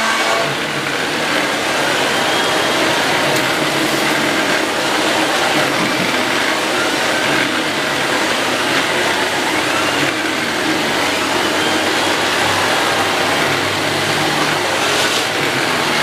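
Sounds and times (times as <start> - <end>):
vacuum cleaner running: 0.0 - 16.0
brush roll spinning: 0.4 - 16.0.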